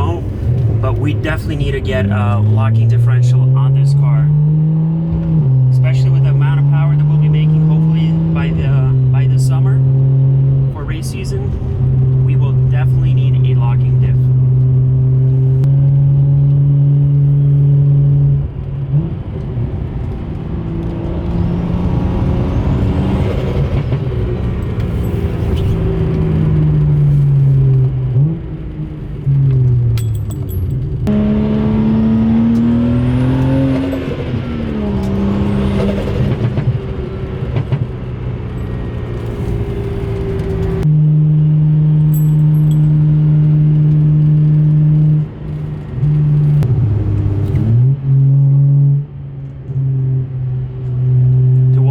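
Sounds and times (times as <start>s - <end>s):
car engine drone and pulls: 0.0s - 51.9s.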